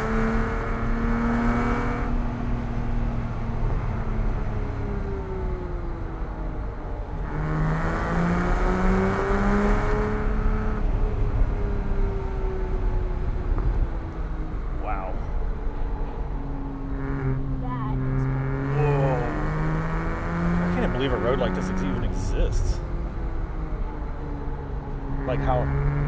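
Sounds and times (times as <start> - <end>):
sports car engine revving: 0.0 - 26.0.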